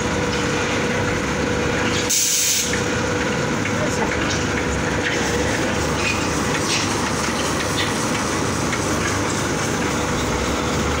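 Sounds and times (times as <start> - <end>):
loud machinery noise with rumble: 0.0 - 11.0.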